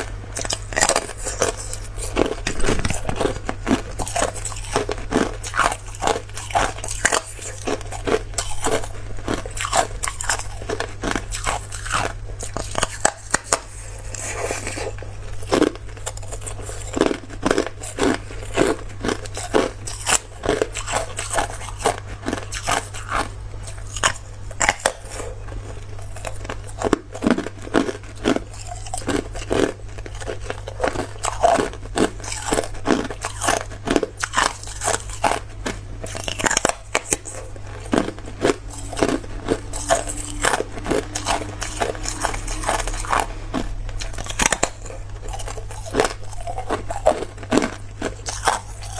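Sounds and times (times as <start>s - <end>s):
steady low hum: 0.0s - 48.9s
person crunching ice: 0.4s - 25.4s, 26.1s - 48.9s.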